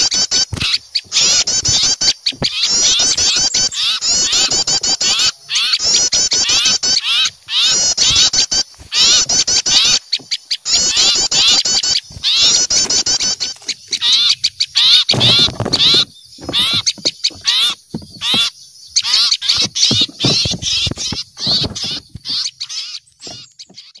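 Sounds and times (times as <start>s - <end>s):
songbirds chattering alarm calls: 0.0s - 24.0s.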